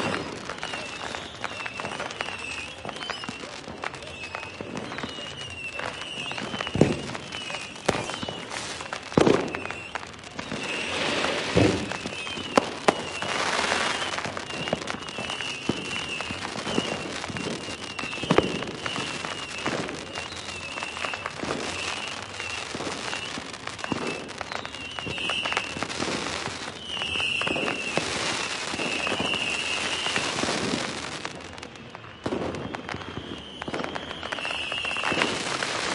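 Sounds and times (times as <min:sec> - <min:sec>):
wavering high whistle: 0:00.0 - 0:25.9, 0:26.7 - 0:30.7, 0:32.0 - 0:35.9
fireworks bangs: 0:00.0 - 0:35.9
fireworks crackling: 0:00.0 - 0:35.9.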